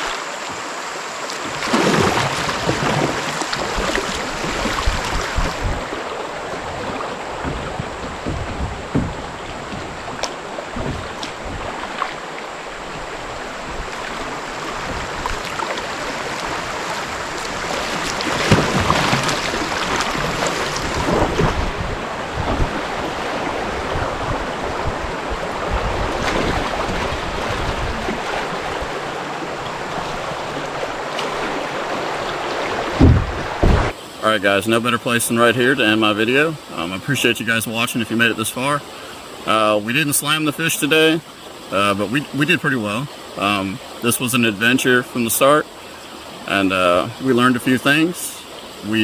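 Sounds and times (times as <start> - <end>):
creek rushing over rapids: 0.0 - 49.0.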